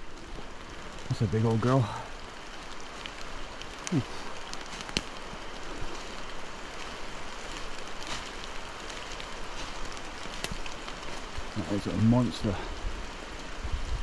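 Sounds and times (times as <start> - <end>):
rain hiss: 0.0 - 14.0
raindrops tapping: 0.0 - 14.0.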